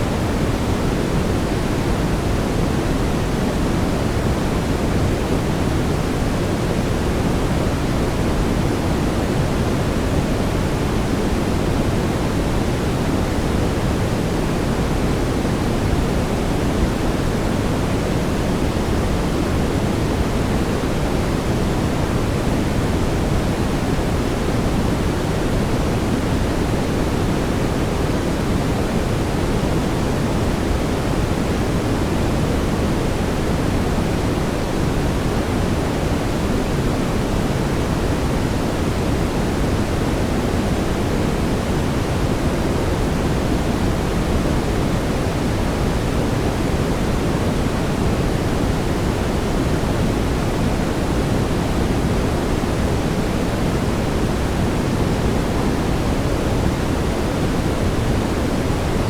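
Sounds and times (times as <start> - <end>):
deep steady brown noise: 0.0 - 59.0.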